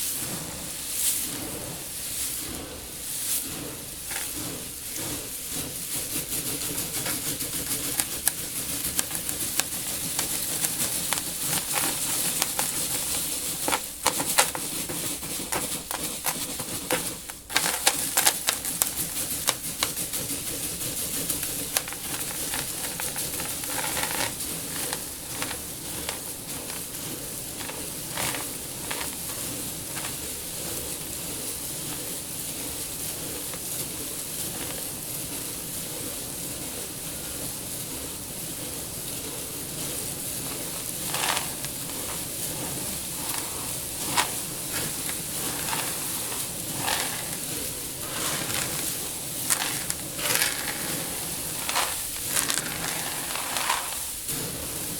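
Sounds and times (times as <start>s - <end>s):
dry seeds rustling: 0.0s - 35.7s, 38.8s - 54.9s.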